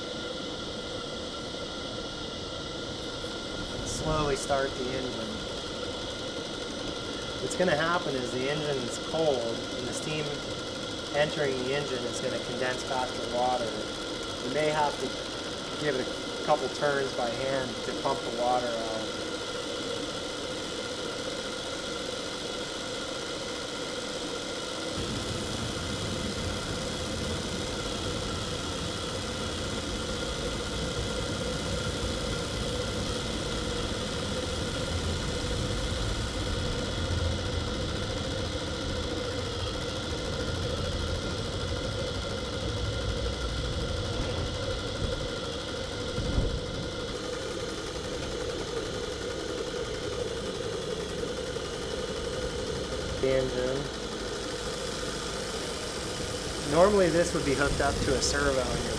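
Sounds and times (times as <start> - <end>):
model steam engine running: 0.0 - 58.9.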